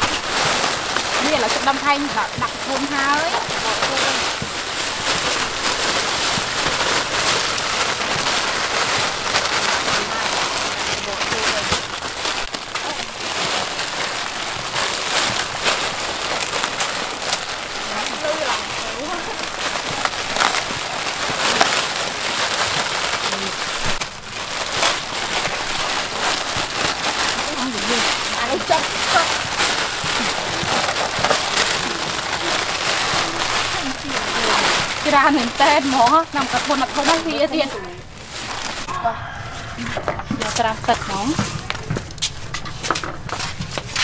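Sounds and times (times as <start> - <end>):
plastic wrappers crinkling: 0.0 - 44.0.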